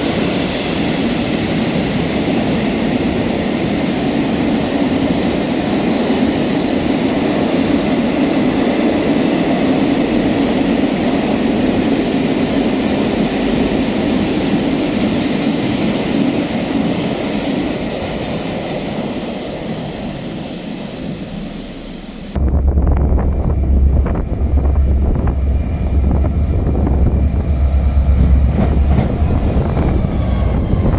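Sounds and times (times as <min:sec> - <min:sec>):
freight train rolling past: 0:00.1 - 0:30.9.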